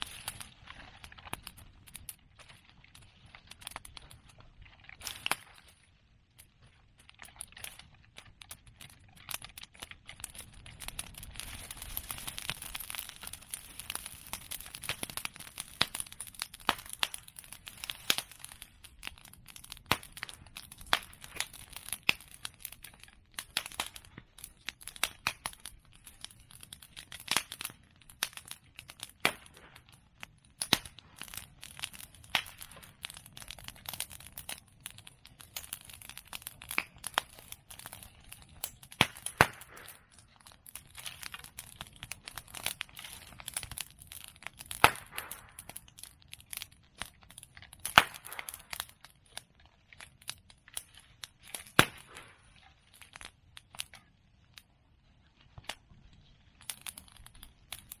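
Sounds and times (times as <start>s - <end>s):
bonfire crackling: 0.0s - 58.0s
sharp pops of burning wood: 0.0s - 58.0s.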